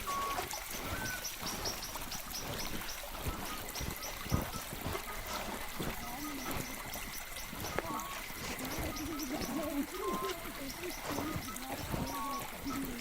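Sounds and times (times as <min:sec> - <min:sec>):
bird chirping: 0:00.0 - 0:13.0
running water: 0:00.0 - 0:13.0.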